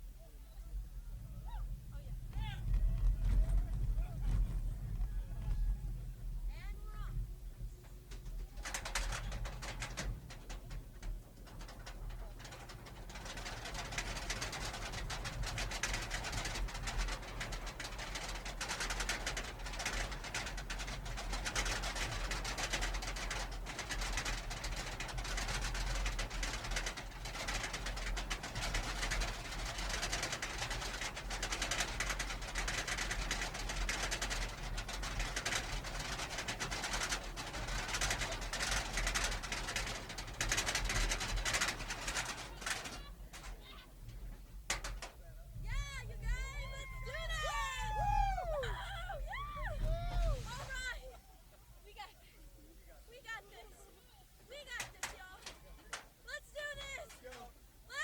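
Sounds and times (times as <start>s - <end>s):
roller coaster train rattling: 1.1s - 58.0s.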